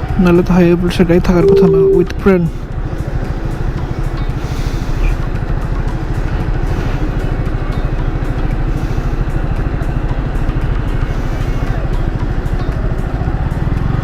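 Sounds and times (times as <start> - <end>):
motorcycle engine running steadily: 2.7 - 14.0.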